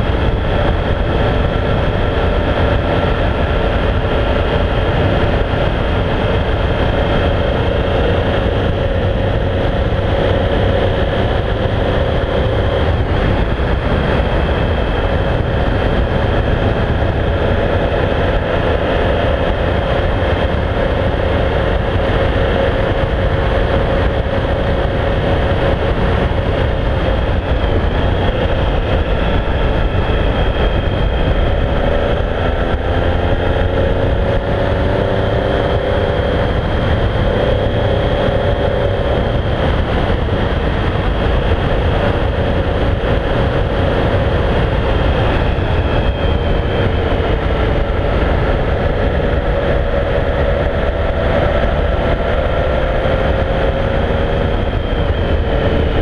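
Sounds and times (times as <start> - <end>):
wind rumble: 0.0 - 56.0.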